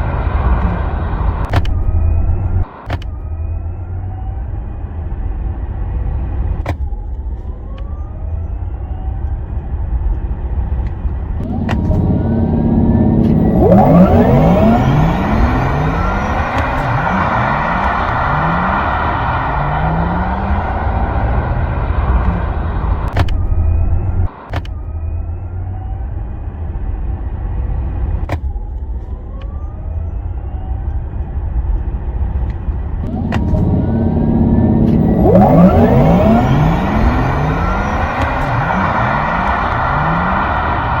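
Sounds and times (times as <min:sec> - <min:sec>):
car road rumble: 0:00.0 - 0:41.0
synthesized electric car driving sound: 0:00.0 - 0:41.0.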